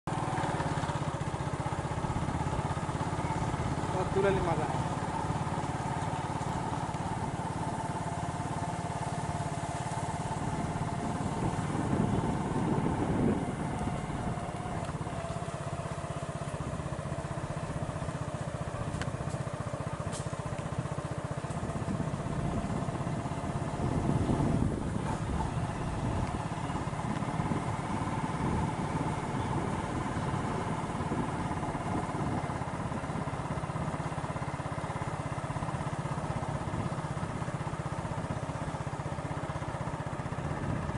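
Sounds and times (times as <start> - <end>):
road and wind rumble: 0.0 - 40.9
vehicle engine running: 0.0 - 40.9.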